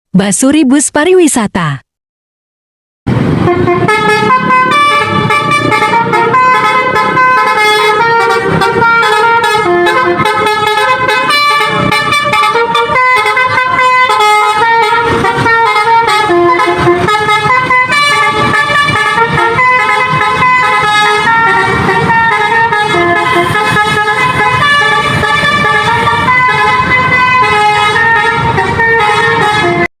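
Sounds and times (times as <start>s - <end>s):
bus horn playing a tune: 3.2s - 29.9s.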